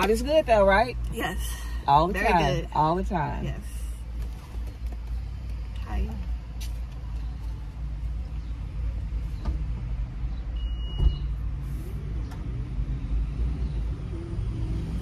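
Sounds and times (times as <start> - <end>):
low rumble inside car cabin: 0.0 - 14.2.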